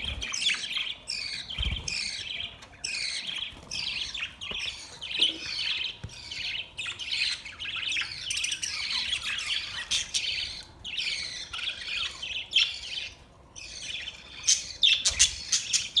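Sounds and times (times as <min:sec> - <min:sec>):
budgerigars chattering: 0:00.0 - 0:16.0.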